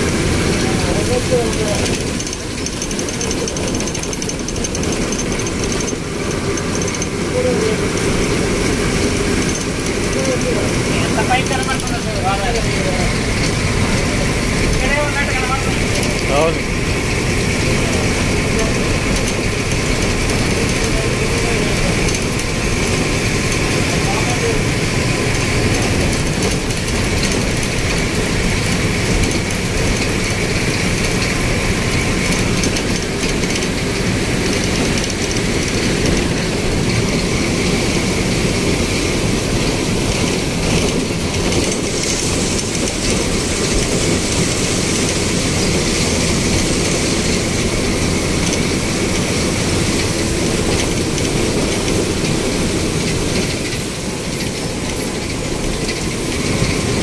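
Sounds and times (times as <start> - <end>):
bus engine and tyre noise: 0.0 - 57.0.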